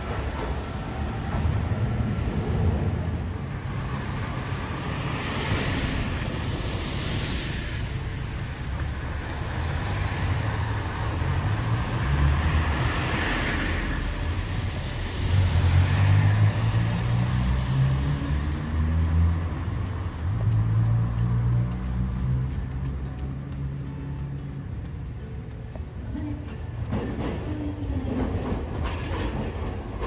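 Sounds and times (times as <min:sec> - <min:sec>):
cars passing with tyre hiss: 0:00.0 - 0:30.0
low traffic rumble: 0:00.0 - 0:30.0.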